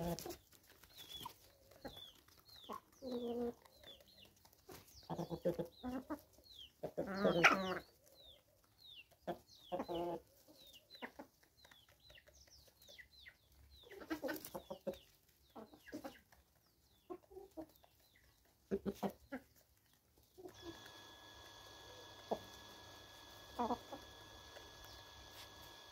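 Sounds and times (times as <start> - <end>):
hens and roosters clucking: 0.0 - 25.9.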